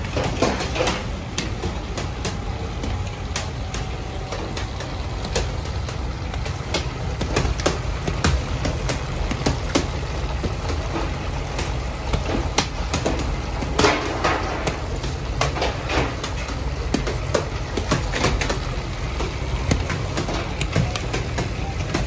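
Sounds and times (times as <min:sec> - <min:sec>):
bakery machinery hum: 0:00.0 - 0:22.0.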